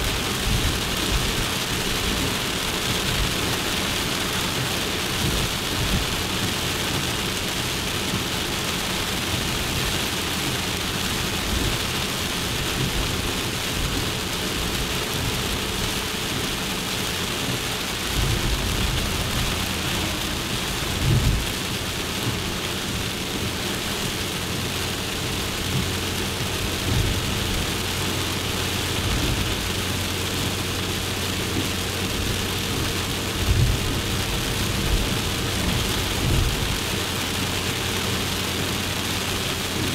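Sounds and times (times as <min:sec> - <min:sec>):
low engine hum: 0:00.0 - 0:39.9
road noise: 0:00.0 - 0:39.9.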